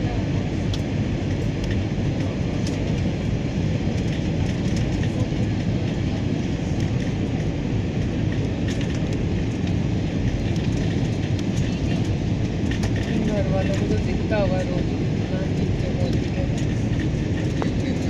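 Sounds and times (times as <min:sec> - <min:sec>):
airliner cabin engine rumble: 0:00.0 - 0:18.0.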